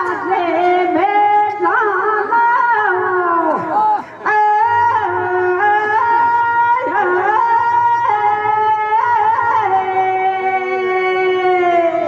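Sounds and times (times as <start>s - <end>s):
woman singing into a microphone: 0.0s - 12.0s.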